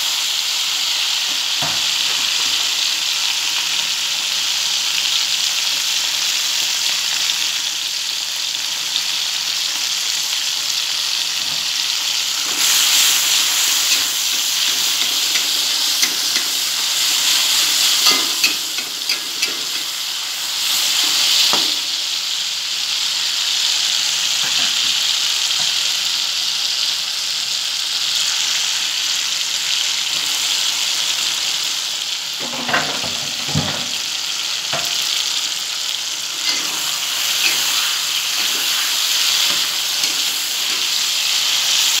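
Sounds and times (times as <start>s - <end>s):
oil sizzling in a wok: 0.0s - 42.0s.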